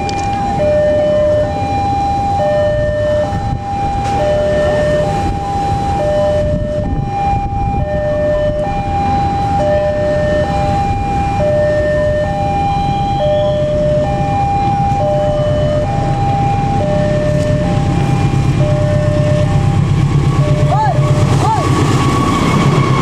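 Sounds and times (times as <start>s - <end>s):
level crossing warning alarm: 0.0s - 23.0s
low rumble: 0.0s - 23.0s.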